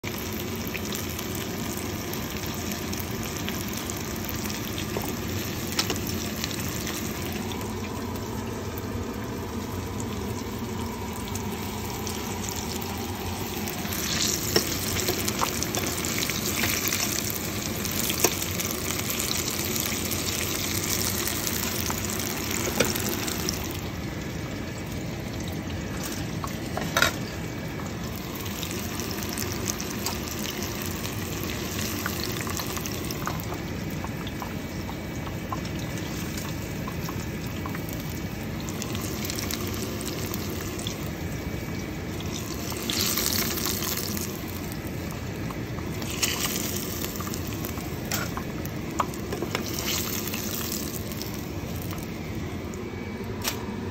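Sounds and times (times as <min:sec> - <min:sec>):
fish frying in hot oil: 0:00.0 - 0:53.7.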